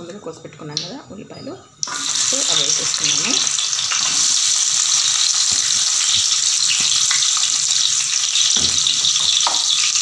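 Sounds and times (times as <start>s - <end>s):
onions sizzling in hot oil: 1.8s - 10.0s.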